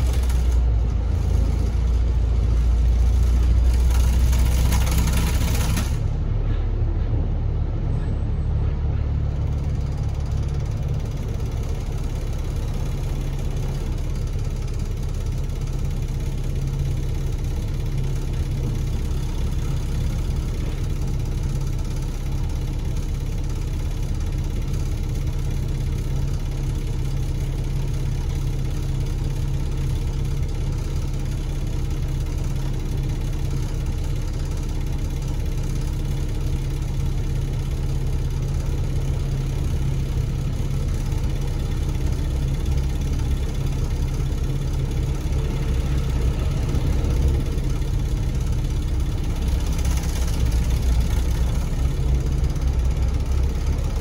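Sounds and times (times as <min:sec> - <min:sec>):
bus diesel engine humming: 0:00.0 - 0:54.0.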